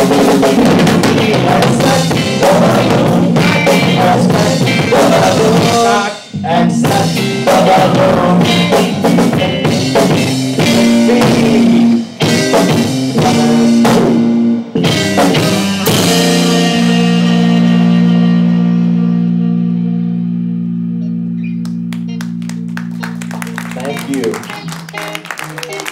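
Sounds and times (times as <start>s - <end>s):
rock band playing live: 0.0s - 25.9s.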